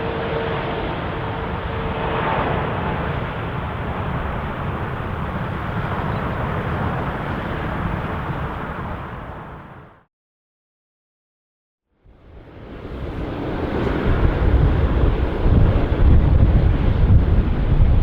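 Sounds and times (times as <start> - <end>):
jet engines roaring: 0.0 - 10.0, 12.5 - 18.0.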